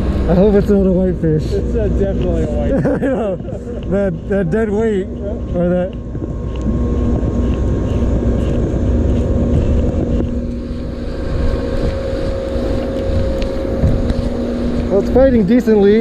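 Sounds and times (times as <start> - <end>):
low engine drone: 0.0 - 16.0
wind buffeting microphone: 0.0 - 16.0.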